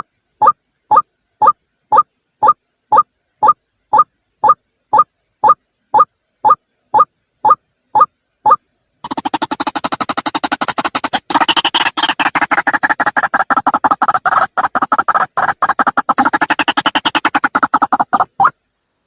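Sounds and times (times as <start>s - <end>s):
bird calling rapid repeated notes: 0.0s - 18.6s.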